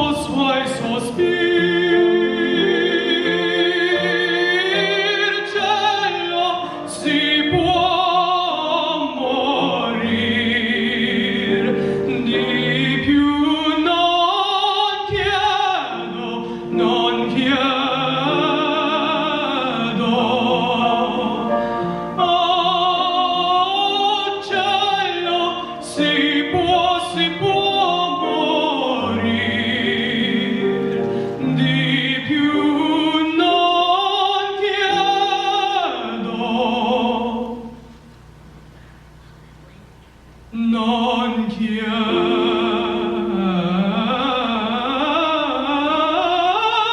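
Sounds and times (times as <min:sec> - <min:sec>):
person singing opera: 0:00.0 - 0:37.9, 0:40.5 - 0:46.9
background music: 0:00.0 - 0:38.0, 0:40.4 - 0:46.9.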